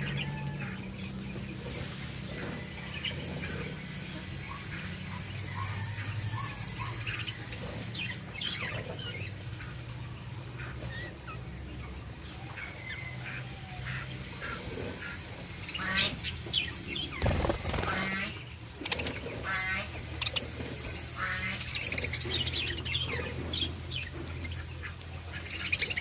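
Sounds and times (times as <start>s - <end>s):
budgerigars chirping: 2.3s - 26.0s.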